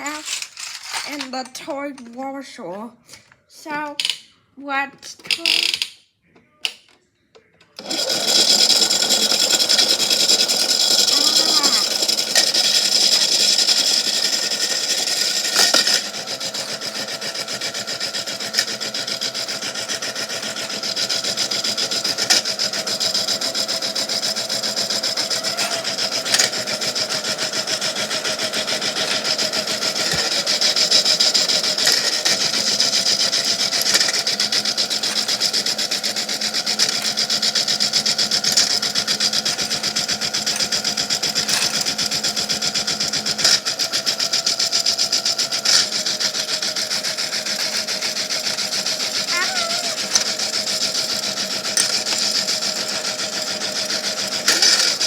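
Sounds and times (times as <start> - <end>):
toy washing machine motor running: 0.0 - 1.4, 5.3 - 5.9, 7.8 - 55.0.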